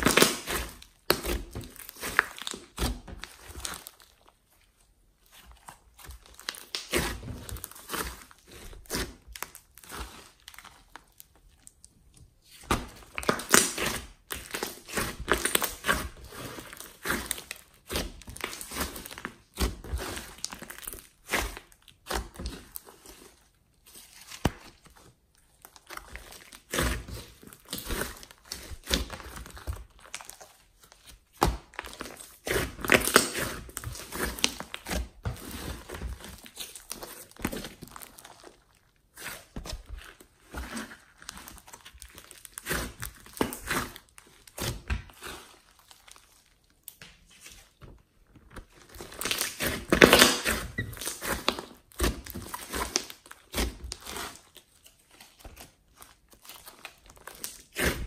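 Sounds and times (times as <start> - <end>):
slime squeezed with sticky crackles: 0.0 - 47.8, 48.4 - 58.0.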